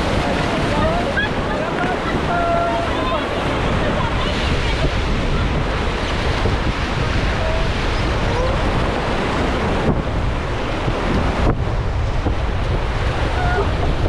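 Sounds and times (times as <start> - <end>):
river whitewater roaring: 0.0 - 14.0
wind buffeting microphone: 0.0 - 14.0.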